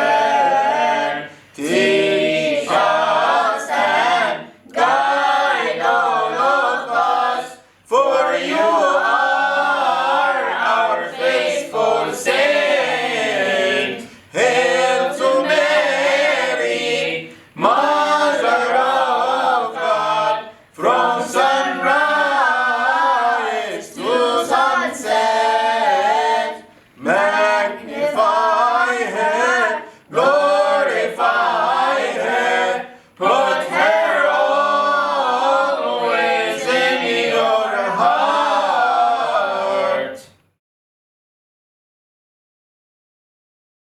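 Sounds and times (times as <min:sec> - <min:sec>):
group singing a hymn unaccompanied: 0:00.0 - 0:40.4.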